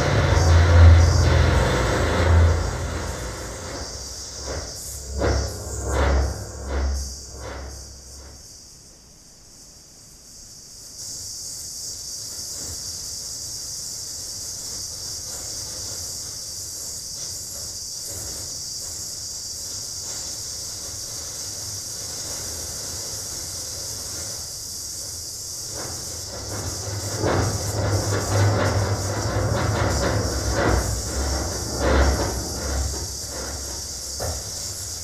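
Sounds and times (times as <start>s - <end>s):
high-pitched filtered noise hiss: 0.0s - 27.7s, 29.9s - 35.0s.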